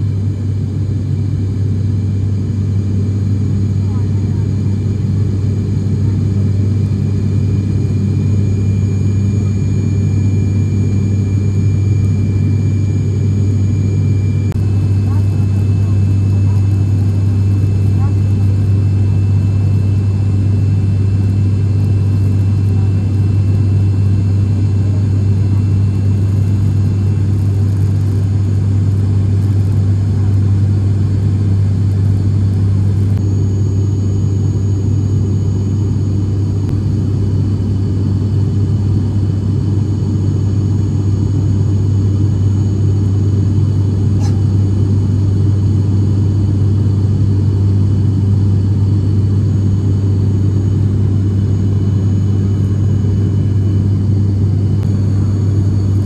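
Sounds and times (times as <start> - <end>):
airplane propellers droning: 0.0 - 56.0.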